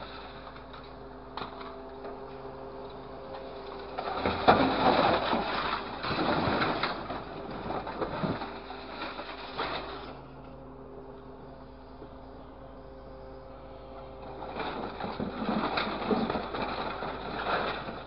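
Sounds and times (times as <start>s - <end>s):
machine engine and hydraulics running: 0.0s - 18.0s.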